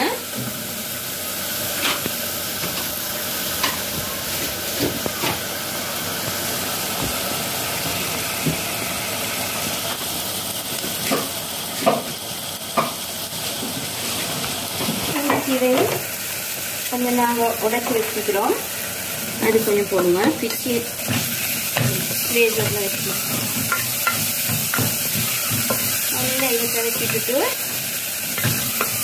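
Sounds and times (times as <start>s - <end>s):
masala sizzling in hot oil: 0.0s - 29.0s.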